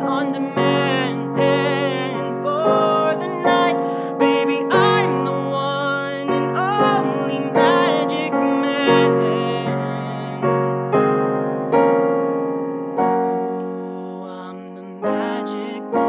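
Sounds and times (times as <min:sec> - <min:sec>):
digital piano block chords: 0:00.0 - 0:16.0.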